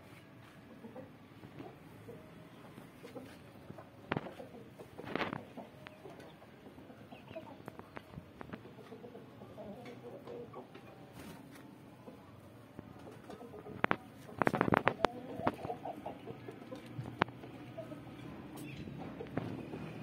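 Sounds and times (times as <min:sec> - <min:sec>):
chickens clucking: 0:00.1 - 0:20.0.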